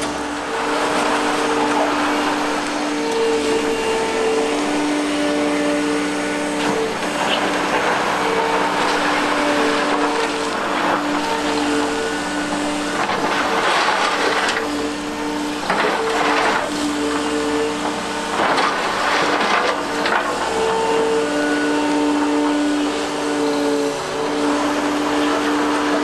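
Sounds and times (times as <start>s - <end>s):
excavator engine and hydraulics: 0.0s - 26.0s.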